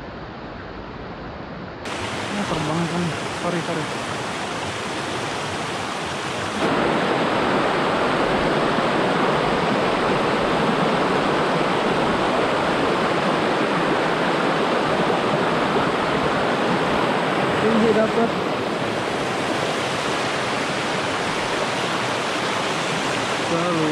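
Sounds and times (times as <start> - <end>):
water rushing over boulders: 1.8 - 23.9.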